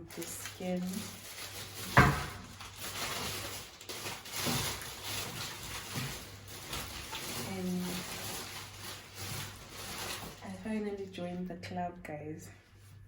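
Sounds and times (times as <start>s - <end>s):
packaging rustling: 0.0s - 11.2s.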